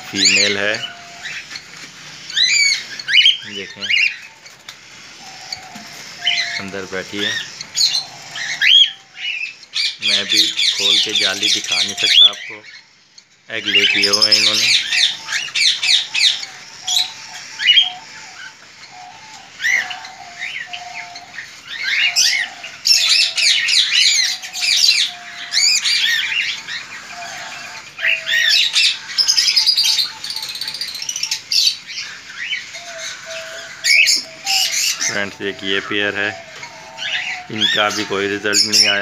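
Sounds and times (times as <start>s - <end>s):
birds chirping and squawking: 0.0s - 39.0s.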